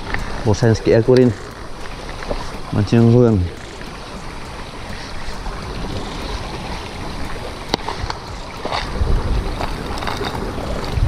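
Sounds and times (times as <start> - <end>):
low thumps: 0.0 - 11.0
steady outdoor rushing noise: 0.0 - 11.0.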